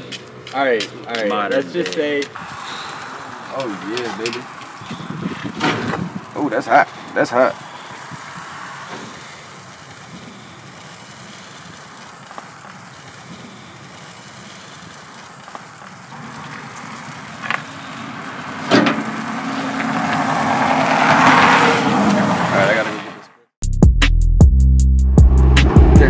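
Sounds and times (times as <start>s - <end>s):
fire hissing and crackling: 0.0s - 21.0s.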